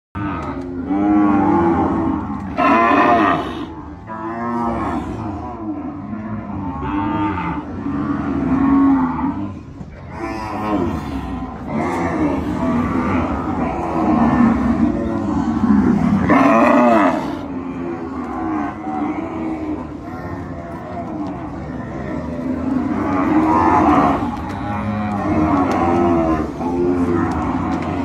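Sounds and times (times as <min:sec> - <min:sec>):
cattle mooing: 0:00.2 - 0:28.0.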